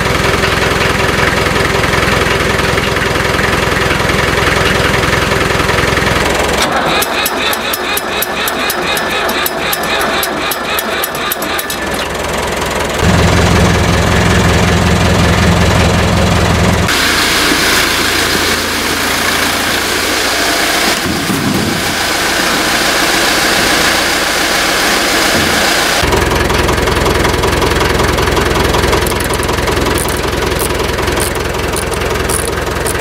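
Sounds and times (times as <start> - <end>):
motor running: 0.0 - 33.0.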